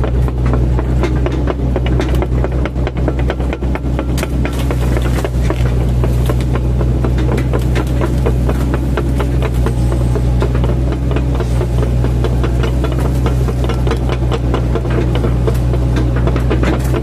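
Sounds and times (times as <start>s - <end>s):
excavator engine running: 0.0s - 17.0s
sharp knocks and clatter: 0.0s - 17.0s.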